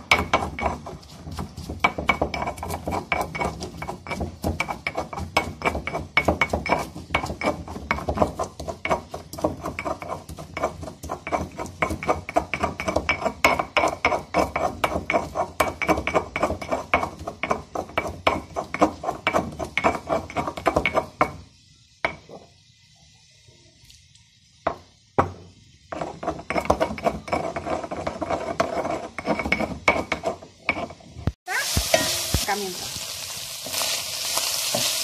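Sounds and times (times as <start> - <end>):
stone pestle grinding spices: 0.0 - 22.4, 25.2 - 31.2
meat sizzling in a wok: 0.0 - 23.5, 24.2 - 27.1, 29.1 - 35.0.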